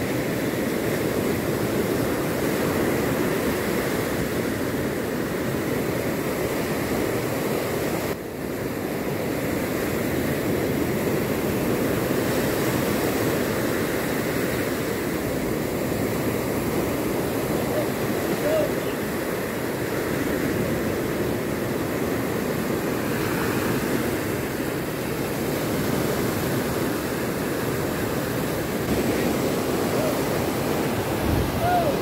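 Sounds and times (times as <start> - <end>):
heavy surf breaking: 0.0 - 32.0.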